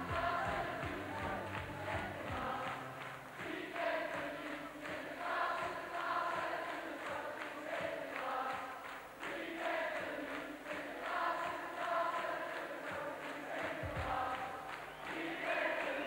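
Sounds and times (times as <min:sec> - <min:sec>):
crowd singing in unison: 0:00.0 - 0:16.0.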